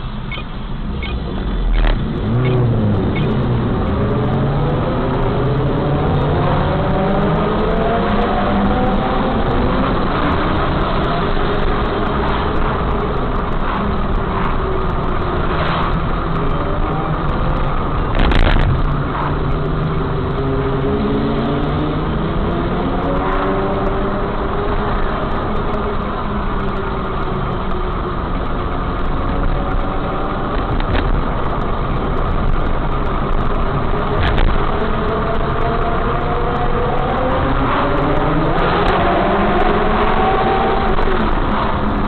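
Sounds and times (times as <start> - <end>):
motorcycle engines revving: 0.3 - 42.0.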